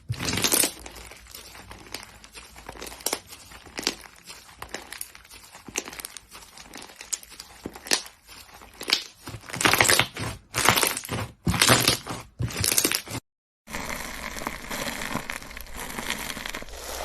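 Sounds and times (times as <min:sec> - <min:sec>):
slime crackling and popping: 0:00.0 - 0:17.0.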